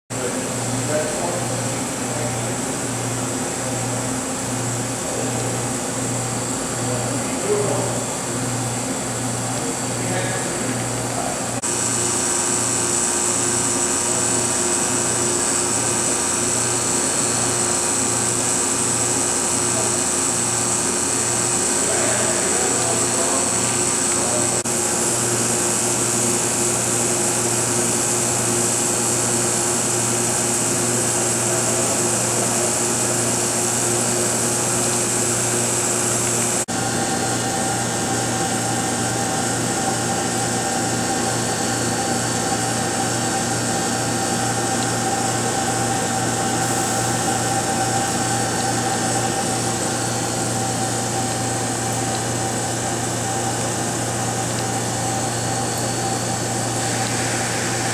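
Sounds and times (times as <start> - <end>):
machinery whirring hum: 0.2 - 57.9.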